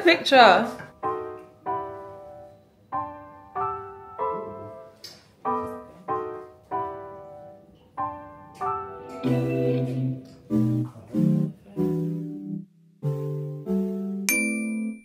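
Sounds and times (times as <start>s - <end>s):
slow piano notes: 0.6s - 15.0s.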